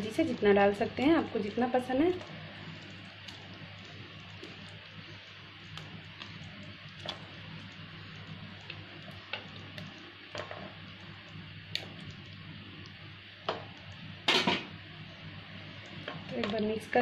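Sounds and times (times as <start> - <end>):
gravy simmering and bubbling: 0.0 - 17.0.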